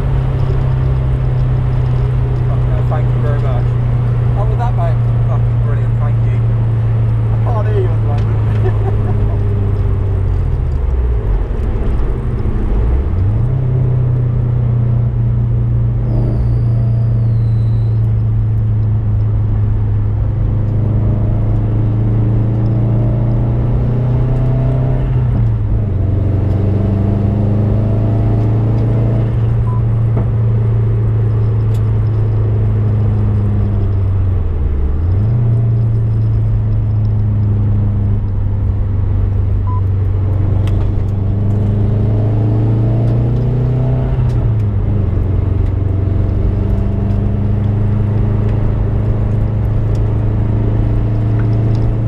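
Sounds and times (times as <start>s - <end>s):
car engine running hard: 0.0s - 52.0s.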